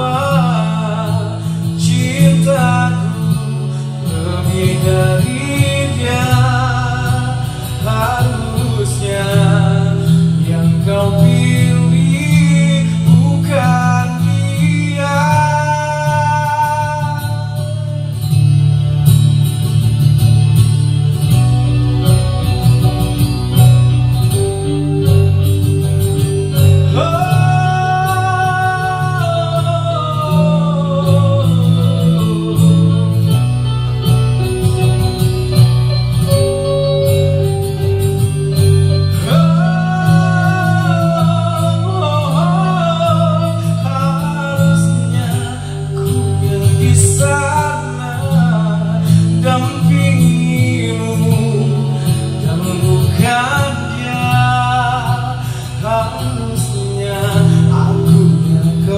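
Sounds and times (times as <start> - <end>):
man singing into a microphone: 0.0 - 19.7, 24.3 - 35.6, 36.2 - 58.9
pop ballad backing music: 0.0 - 58.9.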